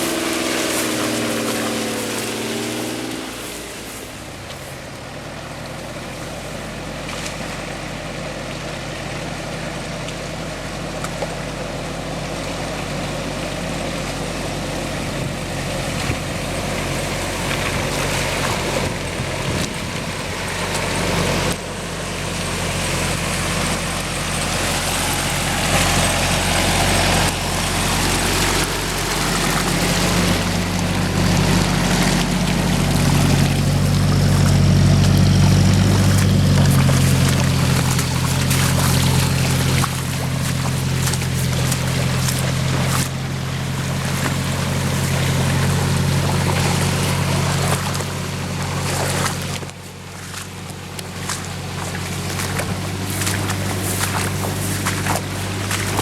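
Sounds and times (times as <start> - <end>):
noisy wash: 0.0 - 56.0
suv engine running under load: 0.0 - 56.0.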